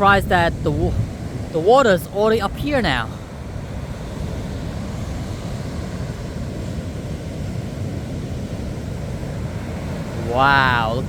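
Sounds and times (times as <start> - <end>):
surf breaking on beach: 0.0 - 11.0
wind on microphone: 0.0 - 11.0.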